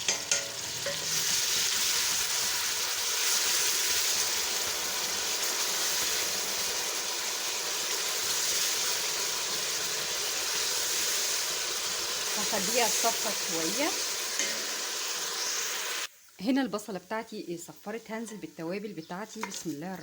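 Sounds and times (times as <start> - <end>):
onions sizzling in fat: 0.0 - 20.0.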